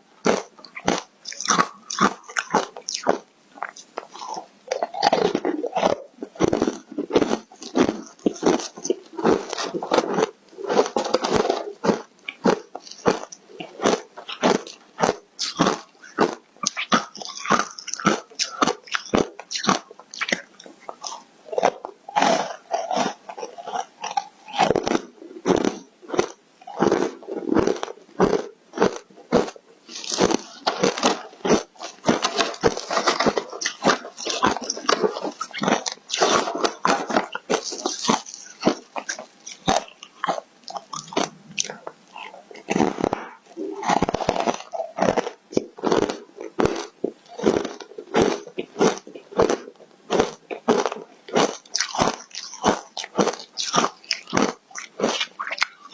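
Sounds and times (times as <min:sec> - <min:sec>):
crisp crunching bites: 0:00.2 - 0:55.9.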